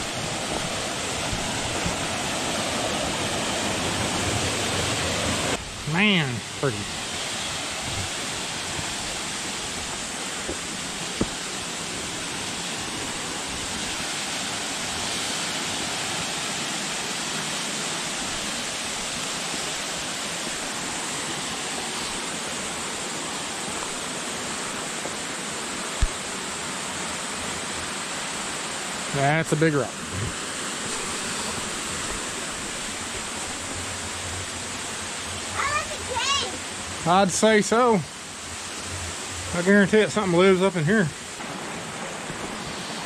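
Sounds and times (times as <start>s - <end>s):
small waterfall rushing: 0.0s - 43.0s.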